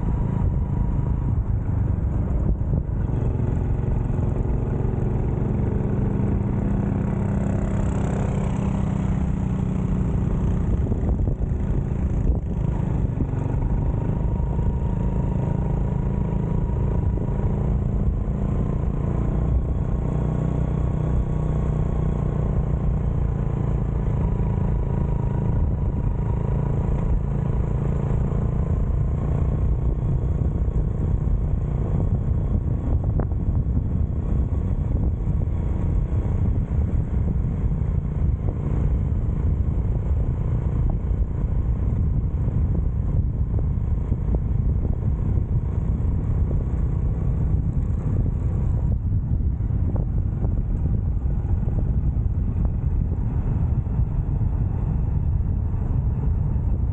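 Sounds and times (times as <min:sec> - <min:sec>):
motorcycle engine running: 0:00.0 - 0:56.9
road noise: 0:00.0 - 0:56.9.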